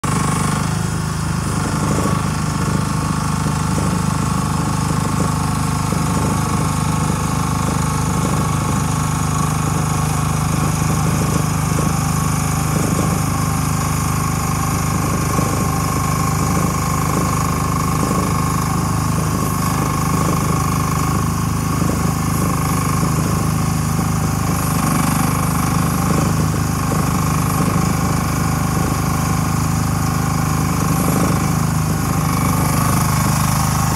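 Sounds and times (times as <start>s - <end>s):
mini excavator engine running: 0.0s - 33.9s.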